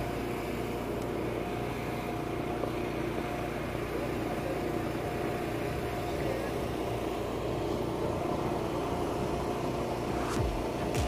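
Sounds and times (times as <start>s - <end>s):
distant traffic hum: 0.0s - 11.0s
river boat engines: 0.0s - 11.0s.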